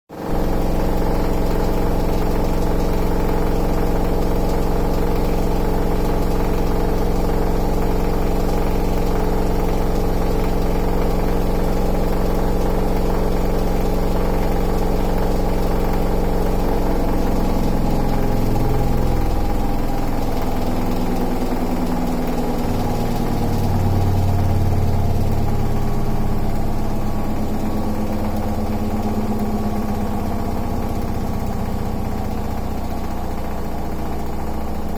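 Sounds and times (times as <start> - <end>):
washing machine spinning: 0.1 - 34.9.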